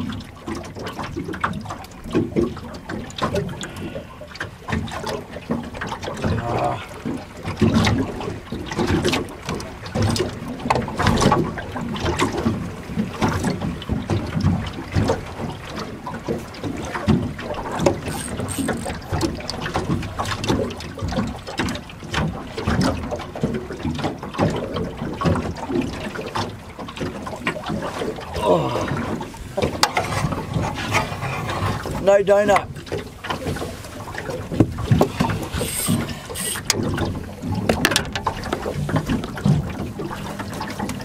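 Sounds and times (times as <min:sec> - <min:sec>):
waves lapping against boat hull: 0:00.0 - 0:41.0.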